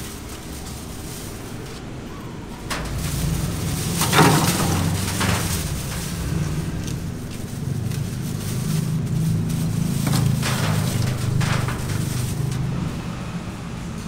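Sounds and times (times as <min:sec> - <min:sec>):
low mechanical hum: 0:00.0 - 0:14.0
rushing swells: 0:02.0 - 0:13.7.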